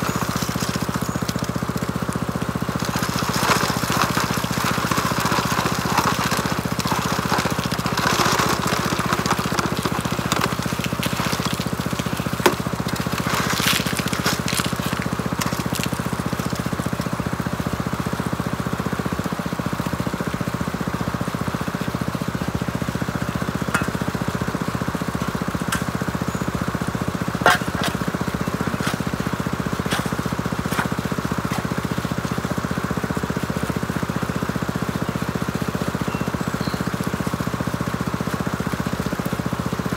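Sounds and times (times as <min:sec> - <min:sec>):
water and gravel rattling: 0:00.0 - 0:39.9
water pump engine running: 0:00.0 - 0:39.9.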